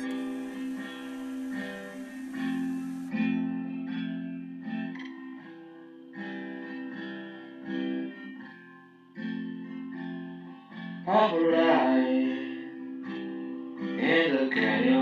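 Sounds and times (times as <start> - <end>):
guitar plucked notes and chords: 0.0 - 15.0.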